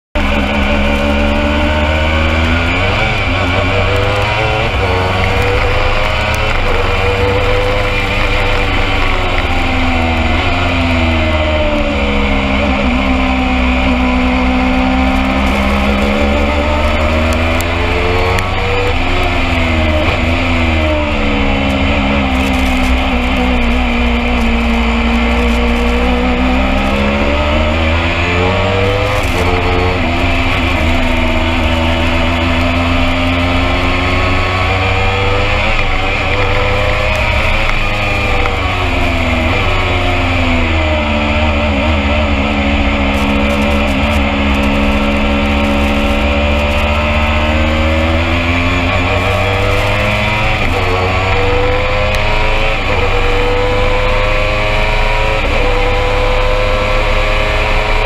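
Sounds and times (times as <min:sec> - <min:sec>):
racing car engine: 0:00.1 - 0:58.0.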